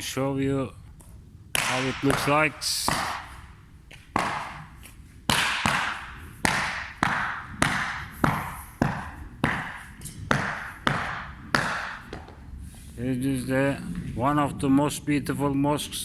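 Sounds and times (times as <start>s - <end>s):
footsteps echoing in large room: 0.9s - 14.9s.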